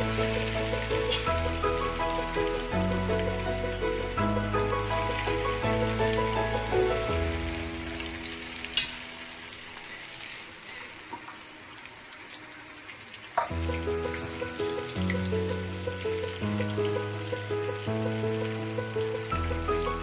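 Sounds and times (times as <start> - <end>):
background music: 0.0 - 9.7, 13.5 - 20.0
food sizzling in hot oil: 0.0 - 20.0.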